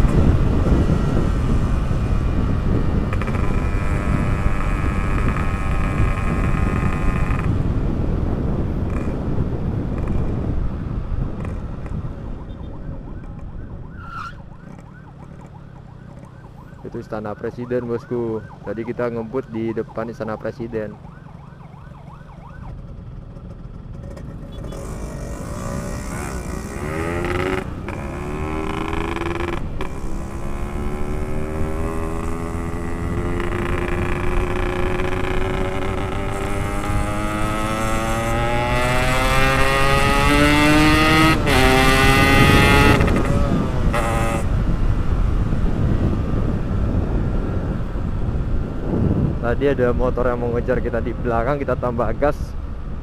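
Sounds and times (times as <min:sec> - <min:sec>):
motorcycle engine accelerating: 0:00.0 - 0:16.8, 0:21.0 - 0:49.4.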